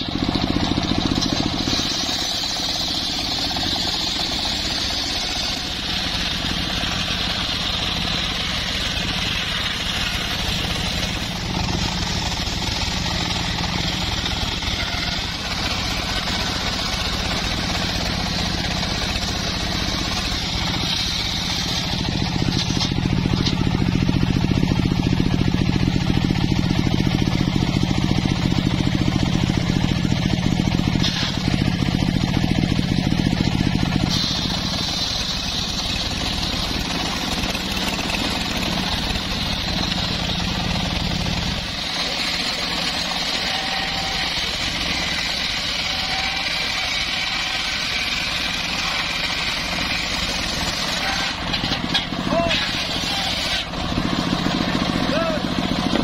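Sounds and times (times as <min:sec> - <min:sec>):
circular sawmill sawing wood: 0:00.0 - 0:56.0.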